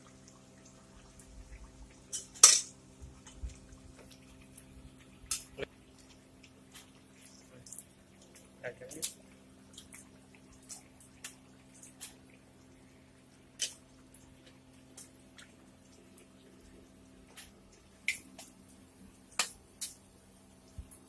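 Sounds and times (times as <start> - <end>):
food crackling in hot oil: 0.0 - 21.0.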